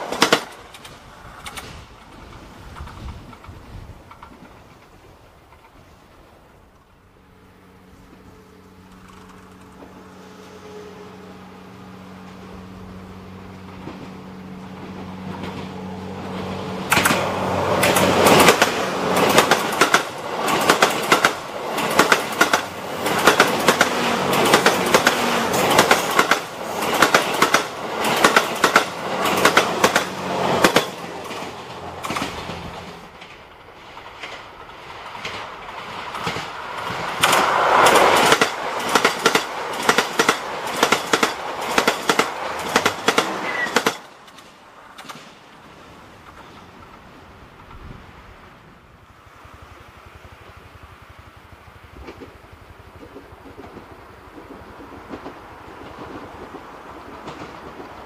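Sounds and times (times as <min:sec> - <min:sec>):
train wheels clattering on rail joints: 0:00.0 - 0:07.0, 0:07.8 - 0:10.2, 0:13.4 - 0:48.3, 0:51.8 - 0:58.0
train low hum: 0:00.0 - 0:58.0.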